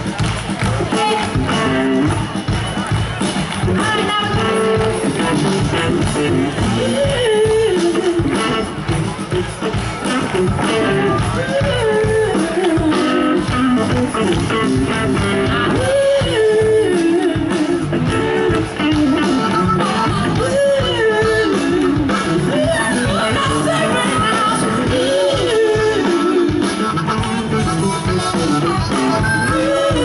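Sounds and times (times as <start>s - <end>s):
drum and bass groove: 0.0s - 30.0s
lead guitar melody: 0.0s - 30.0s.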